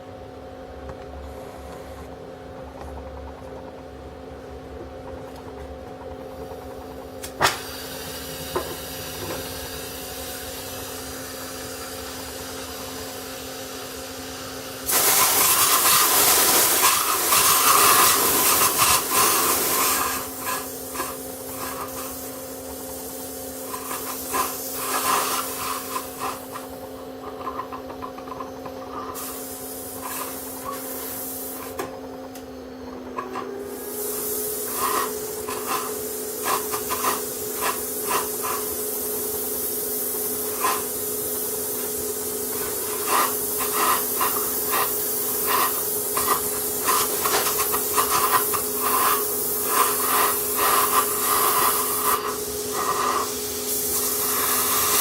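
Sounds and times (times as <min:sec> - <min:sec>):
welding station humming: 0:00.0 - 0:55.0
torch flame hissing: 0:07.2 - 0:32.4, 0:33.2 - 0:55.0.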